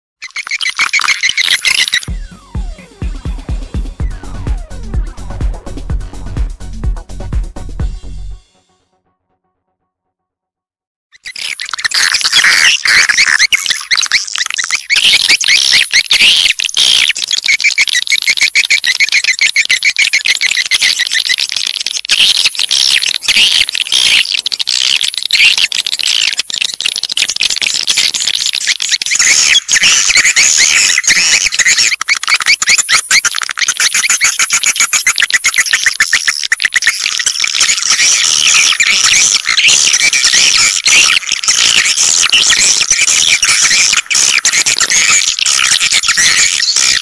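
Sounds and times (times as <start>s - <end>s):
swiftlets twittering and chirping: 0.2s - 5.7s, 11.2s - 47.0s.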